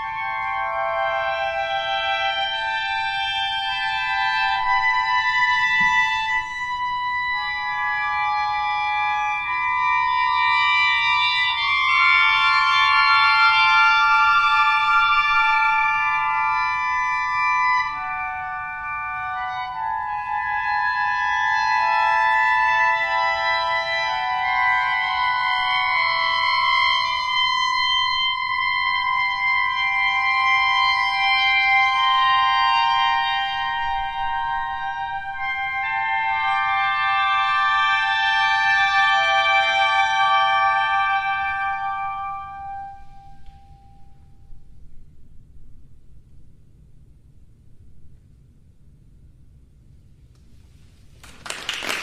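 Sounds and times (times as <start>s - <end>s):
clarinet ensemble sustained chord: 0.0s - 45.0s.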